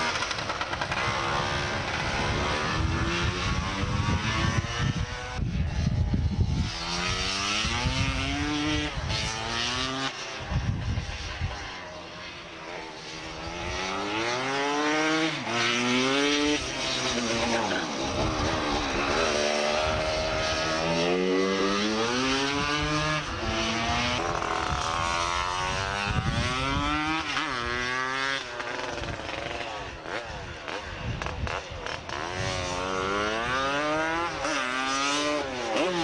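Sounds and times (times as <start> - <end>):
two-stroke scooter engine accelerating: 0.0 - 36.0.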